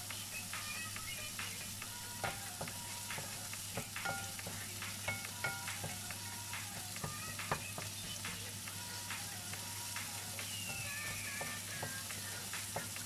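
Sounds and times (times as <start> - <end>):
meat frying sizzle: 0.0 - 13.0.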